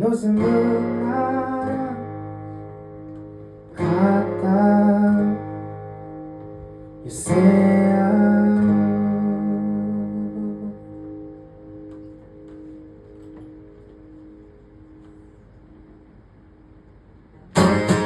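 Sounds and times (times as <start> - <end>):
guitar chords strummed: 0.0 - 16.3, 17.3 - 18.0.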